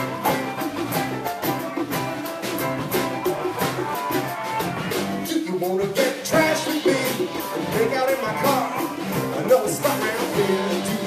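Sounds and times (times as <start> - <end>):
drum kit beat: 0.0 - 11.0
instrumental melody: 0.0 - 11.0.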